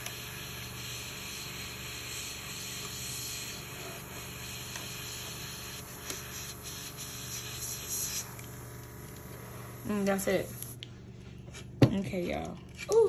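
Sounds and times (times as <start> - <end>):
airbrush hissing: 0.0 - 10.8.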